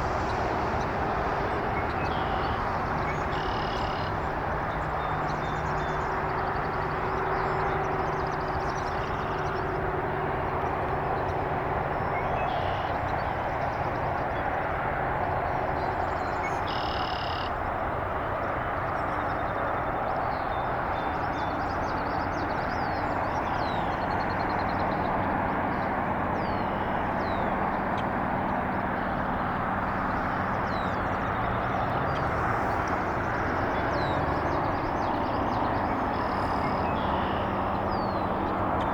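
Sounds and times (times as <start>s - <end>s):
birds twittering and chirping: 0.0s - 38.9s
outdoor rumble and hiss: 0.0s - 38.9s.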